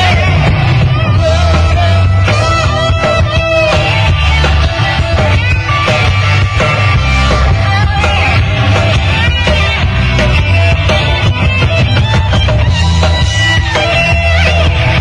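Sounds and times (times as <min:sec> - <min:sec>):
live rock band playing: 0:00.0 - 0:15.0
wavering lead melody: 0:00.0 - 0:15.0.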